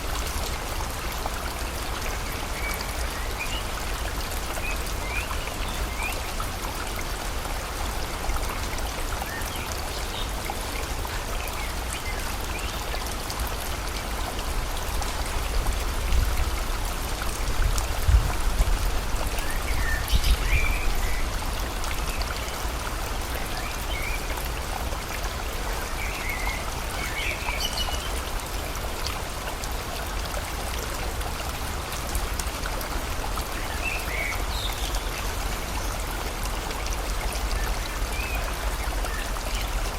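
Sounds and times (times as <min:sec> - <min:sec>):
river flowing: 0:00.0 - 0:39.9
steady rain: 0:00.0 - 0:39.9.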